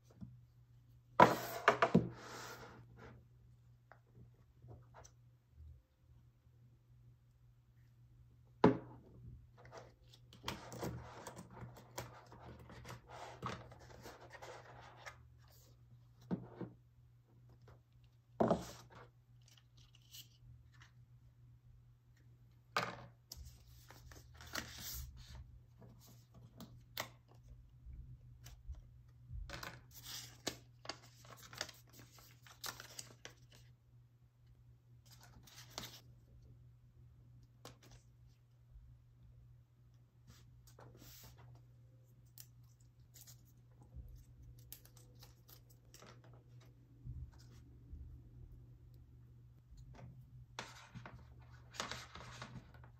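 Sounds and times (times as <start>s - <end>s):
faint low hum: 2.8s - 52.9s.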